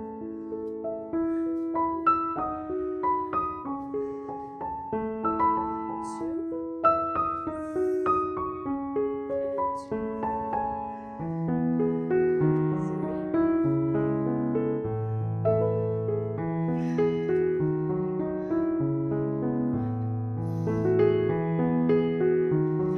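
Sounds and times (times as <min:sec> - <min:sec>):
slow piano melody: 0:00.0 - 0:22.9.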